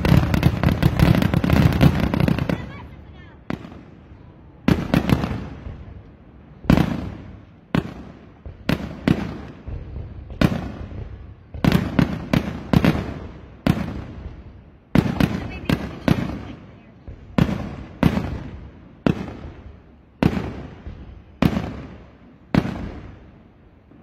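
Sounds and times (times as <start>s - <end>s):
fireworks bursting with rumble: 0.0s - 24.0s.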